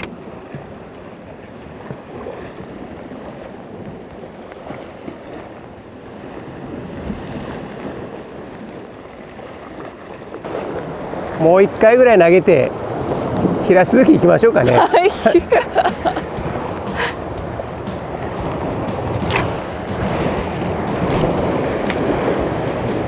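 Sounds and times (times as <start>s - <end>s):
surf washing against rocks: 0.0s - 23.0s
wind buffeting microphone: 0.0s - 23.0s.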